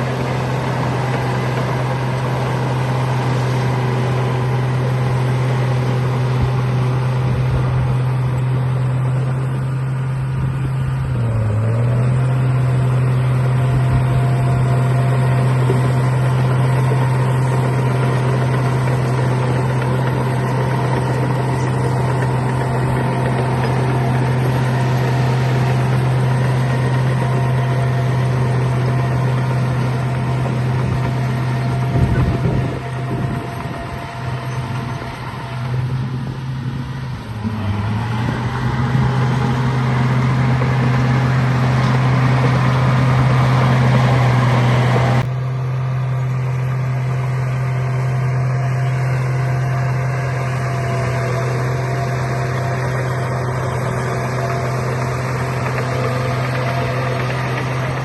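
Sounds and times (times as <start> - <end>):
bulldozer engine running: 0.0 - 58.0.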